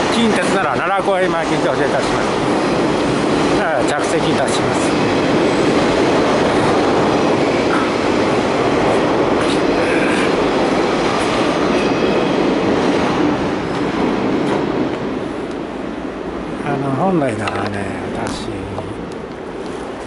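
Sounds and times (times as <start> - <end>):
electric train rail noise: 0.0 - 20.0.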